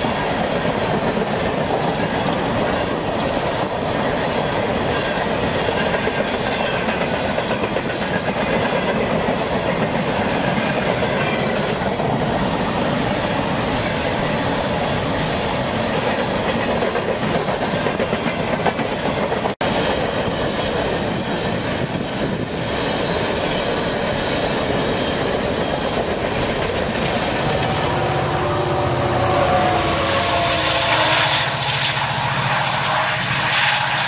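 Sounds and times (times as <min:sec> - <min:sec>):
train wheels clattering on rails: 0:00.0 - 0:28.2
diesel locomotive engine drone: 0:00.0 - 0:34.0.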